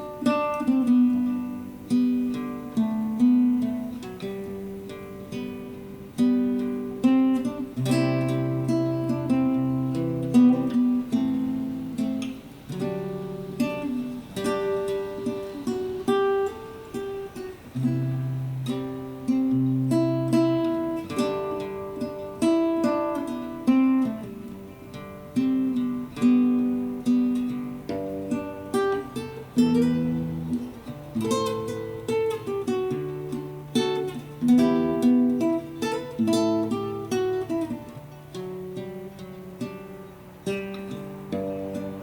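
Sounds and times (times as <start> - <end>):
acoustic guitar melody: 0.0 - 42.0.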